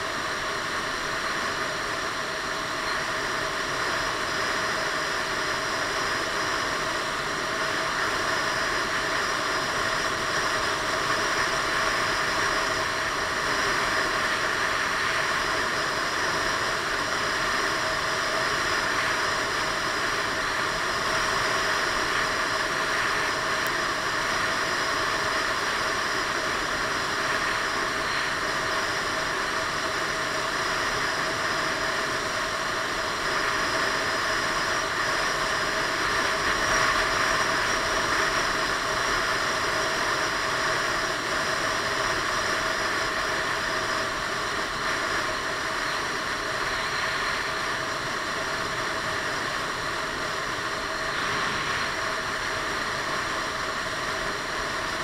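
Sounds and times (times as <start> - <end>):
scooter engine drone: 0.0 - 55.0.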